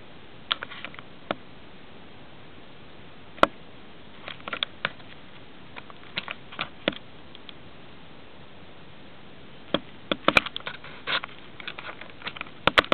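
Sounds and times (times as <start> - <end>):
steady hiss: 0.0 - 12.9.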